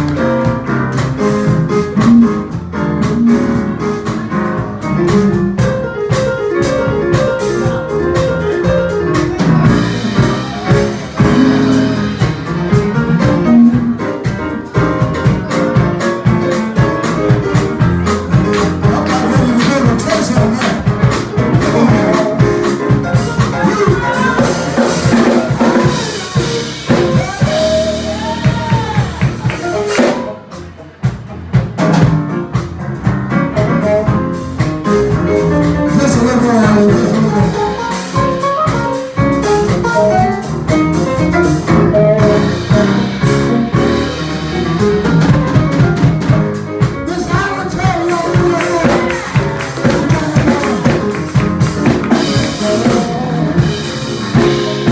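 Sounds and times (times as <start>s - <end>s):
drum kit beat: 0.0s - 54.9s
live soul band playing: 0.0s - 54.9s.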